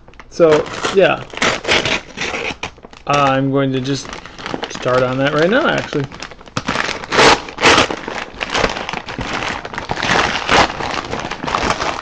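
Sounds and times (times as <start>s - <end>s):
paper packaging crinkling: 0.0s - 12.0s.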